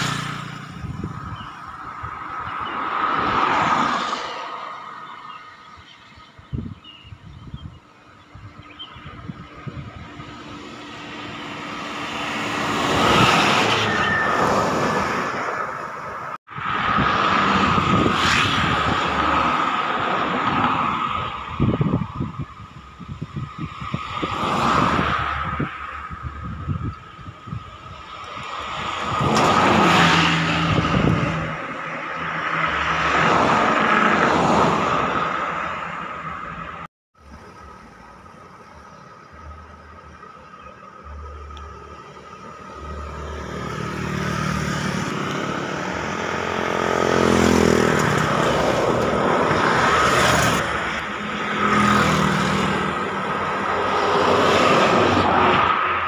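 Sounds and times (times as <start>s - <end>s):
bus passing by: 8.1s - 22.4s, 24.1s - 56.0s.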